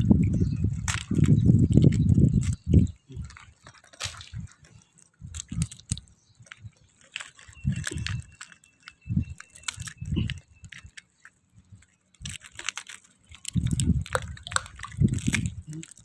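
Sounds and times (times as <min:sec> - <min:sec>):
mussel shells clicking and crunching: 0:00.0 - 0:16.0.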